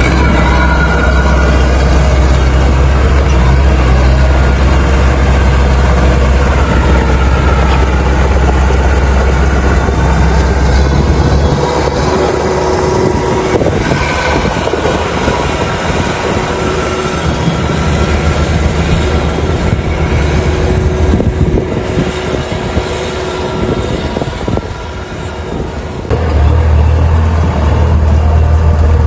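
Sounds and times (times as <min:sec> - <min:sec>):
harvester engine drone: 0:00.0 - 0:29.0.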